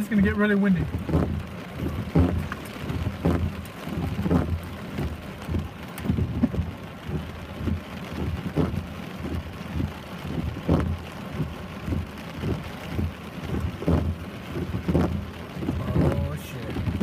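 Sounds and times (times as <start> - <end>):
heavy rain pouring: 0.0 - 17.0
low thuds: 0.7 - 17.0.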